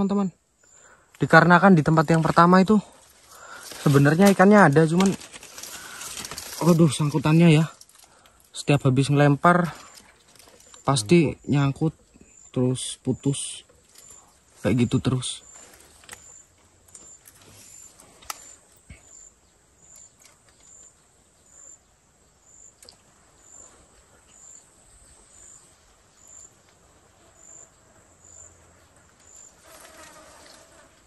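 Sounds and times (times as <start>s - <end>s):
faint outdoor ambience: 0.0s - 31.0s
insect chirping: 0.0s - 31.0s.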